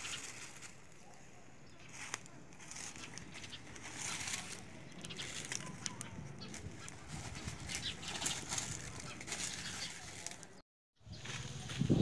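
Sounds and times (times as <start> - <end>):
leaves and twigs crackling in fire: 0.0 - 10.6.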